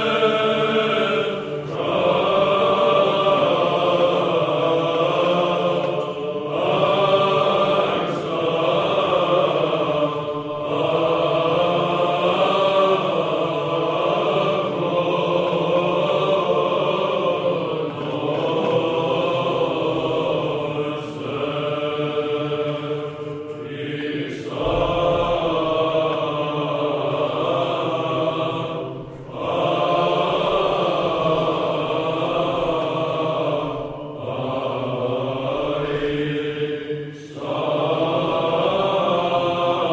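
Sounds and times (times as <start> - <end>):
voices singing a chant: 0.0 - 39.9.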